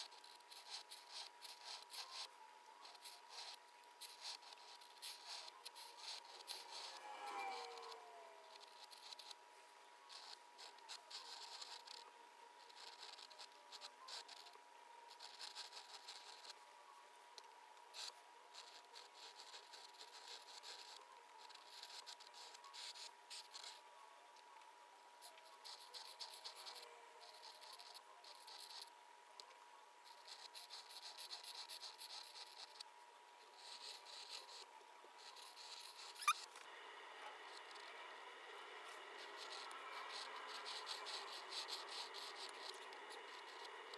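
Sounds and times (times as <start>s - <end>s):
pen scratching on paper: 0.0s - 9.4s, 10.1s - 16.6s, 17.9s - 23.8s, 25.2s - 28.9s, 30.0s - 36.5s, 37.5s - 37.9s, 38.8s - 43.9s
faint high whine: 0.0s - 43.9s.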